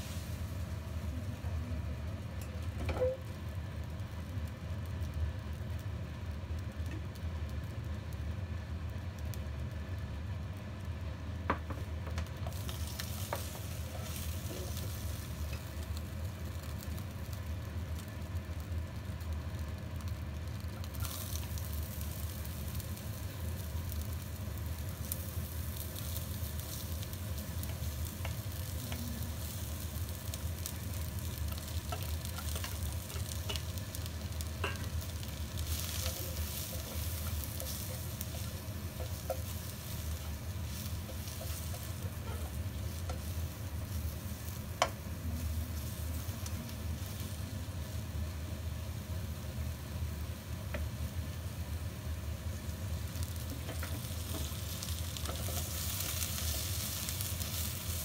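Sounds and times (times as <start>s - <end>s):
hot oil sizzling in a wok: 0.0s - 58.0s
steady low hum: 0.0s - 58.0s.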